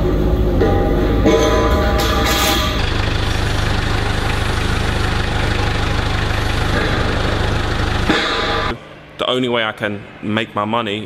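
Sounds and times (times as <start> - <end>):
forklift engine running: 0.0 - 9.0.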